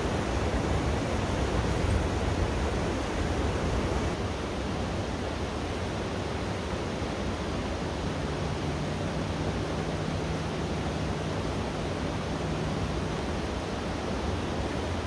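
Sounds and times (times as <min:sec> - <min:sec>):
river current rushing: 0:00.0 - 0:15.0.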